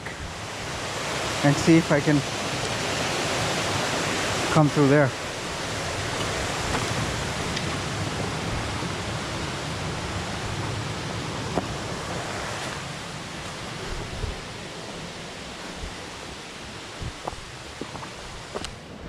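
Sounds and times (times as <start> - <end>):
water rushing over falls: 0.0 - 19.0.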